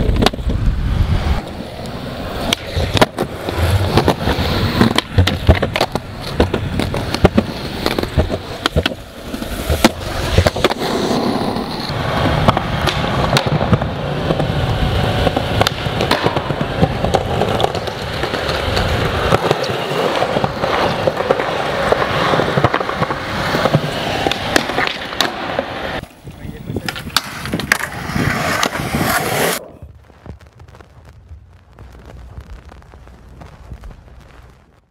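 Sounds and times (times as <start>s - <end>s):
skateboard tail popping and landing: 0.0s - 30.4s
skateboard wheels rolling on concrete: 0.0s - 34.9s.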